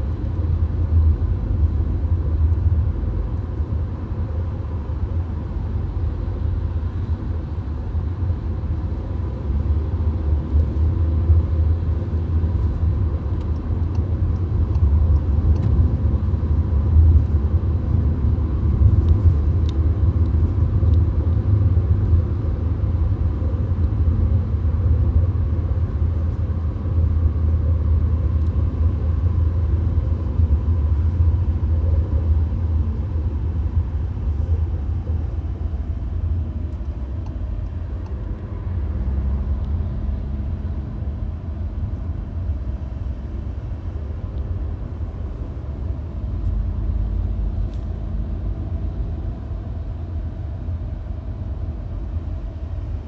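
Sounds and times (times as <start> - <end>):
car interior road noise: 0.0 - 53.0.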